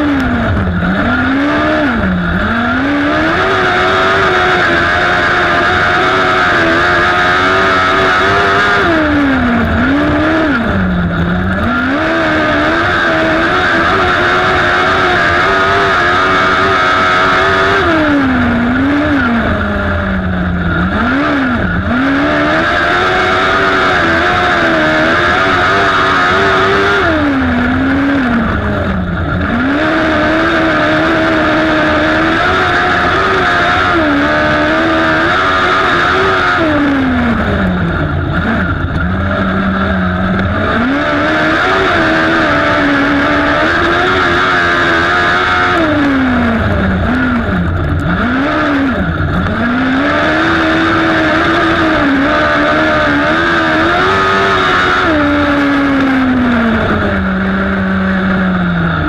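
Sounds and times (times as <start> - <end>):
racing engine at high revs: 0.0 - 59.0.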